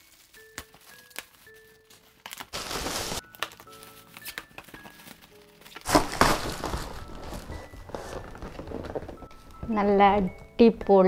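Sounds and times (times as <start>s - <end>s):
metallic gift wrap crinkling: 0.0s - 9.6s
light background music: 0.0s - 11.0s.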